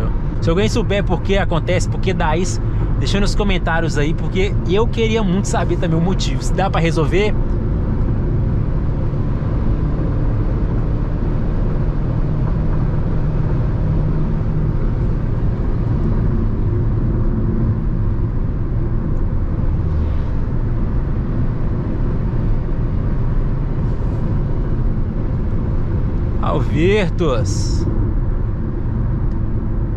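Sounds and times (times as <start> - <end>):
road noise inside car: 0.0 - 29.9
wind noise inside car: 0.0 - 29.9.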